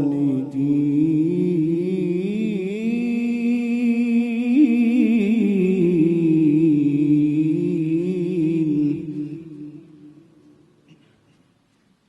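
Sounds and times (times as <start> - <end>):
man reciting in melismatic song: 0.0 - 10.6.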